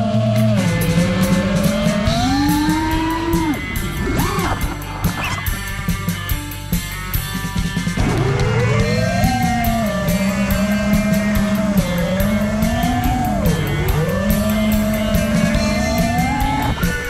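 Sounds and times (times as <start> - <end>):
drone motors whining: 0.0 - 17.0
music with steady beat: 0.0 - 17.0.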